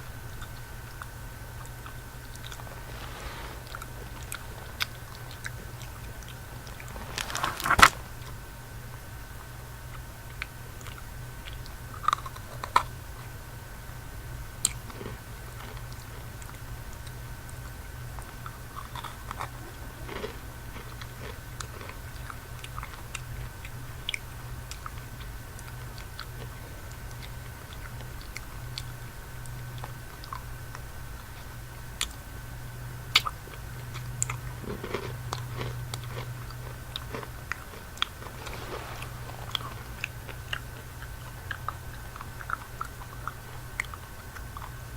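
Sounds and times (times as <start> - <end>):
chewing candy with crunches: 0.0 - 44.9
steady low hum: 0.0 - 44.9.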